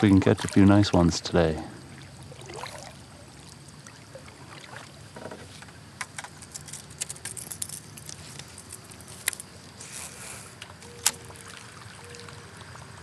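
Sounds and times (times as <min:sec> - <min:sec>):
paddle in water: 0:00.0 - 0:07.3, 0:08.1 - 0:13.0.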